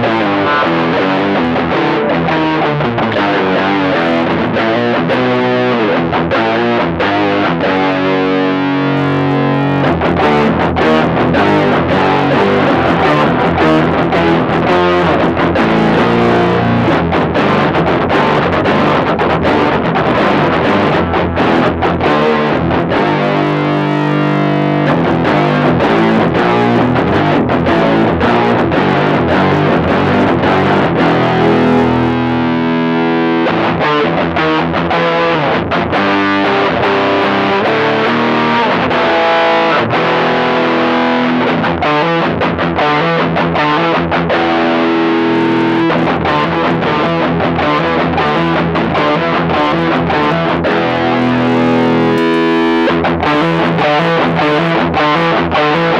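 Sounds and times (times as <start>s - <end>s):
distorted electric guitar with octave effect: 0.0s - 55.9s.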